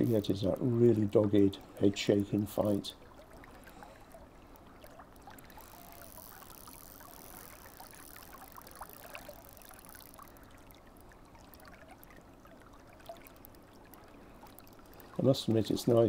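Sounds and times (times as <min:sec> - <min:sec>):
shallow river rippling and lapping: 0:00.0 - 0:16.0
small scattered clicks: 0:00.0 - 0:16.0.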